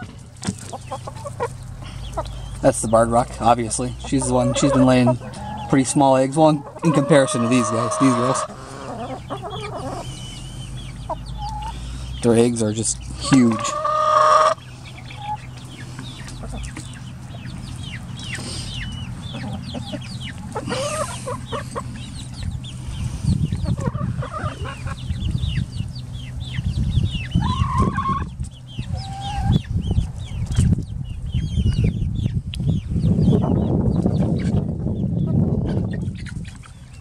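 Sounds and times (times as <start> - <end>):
hens clucking: 0.0 - 30.8, 33.3 - 37.0.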